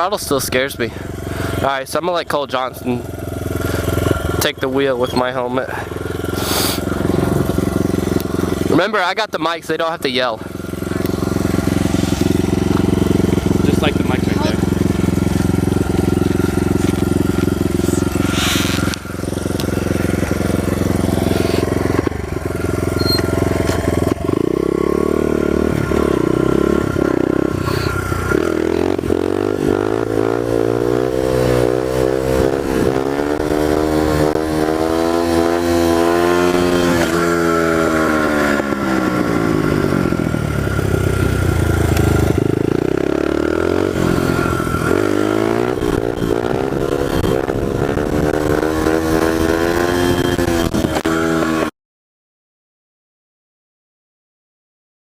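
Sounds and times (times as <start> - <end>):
motorbike engine revving: 0.0 - 51.7.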